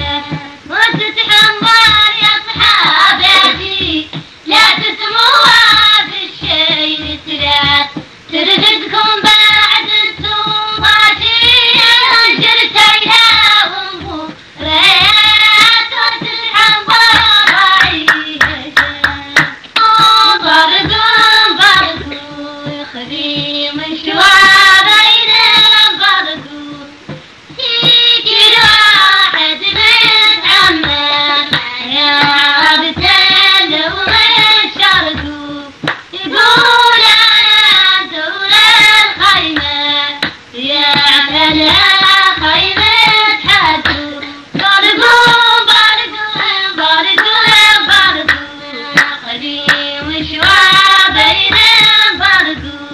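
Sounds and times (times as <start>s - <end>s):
woman singing: 0.0s - 52.9s
hand clapping: 0.2s - 22.8s, 27.1s - 52.8s.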